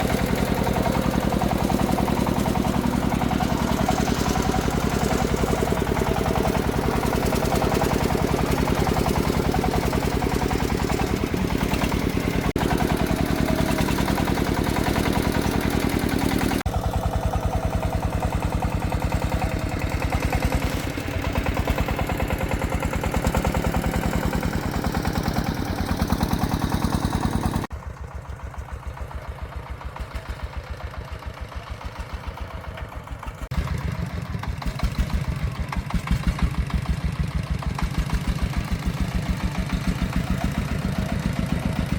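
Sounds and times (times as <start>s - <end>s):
diesel engine thumping: 0.0s - 41.9s.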